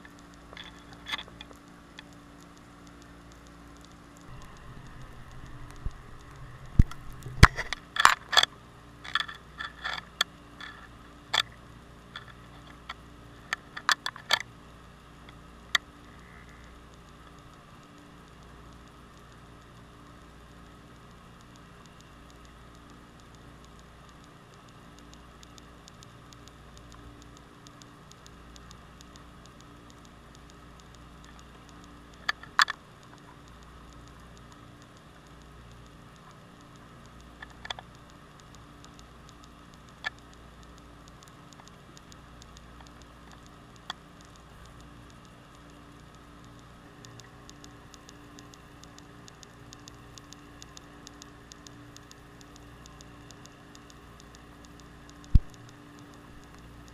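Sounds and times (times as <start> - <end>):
sharp clicks: 0.0 - 14.6, 15.2 - 56.9
underwater crackle and hiss: 0.0 - 56.9.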